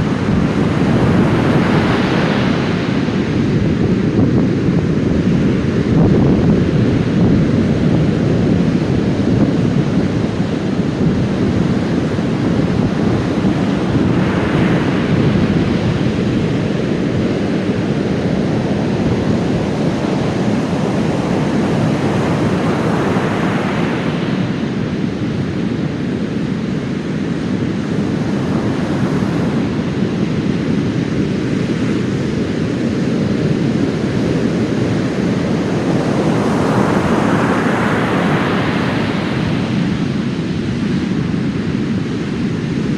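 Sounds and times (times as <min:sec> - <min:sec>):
heavy waves roaring: 0:00.0 - 0:42.9.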